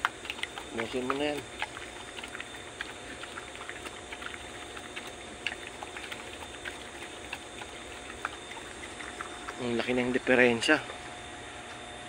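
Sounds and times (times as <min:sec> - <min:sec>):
pig eating with smacking sounds: 0:00.0 - 0:11.2.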